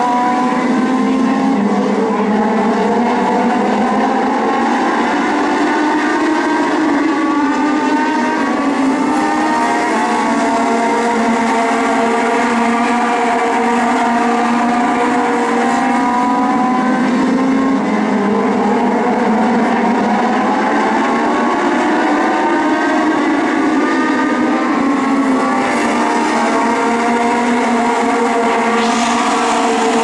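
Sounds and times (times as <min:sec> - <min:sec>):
race car engines at full throttle: 0:00.0 - 0:30.0.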